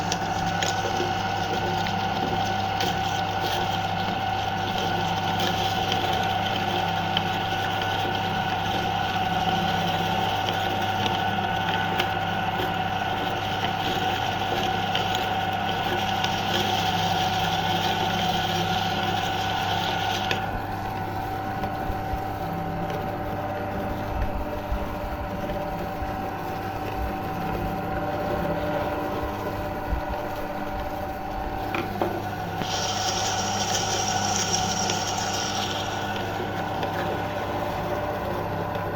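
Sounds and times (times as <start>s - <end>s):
meat grinder motor humming: 0.0s - 38.9s.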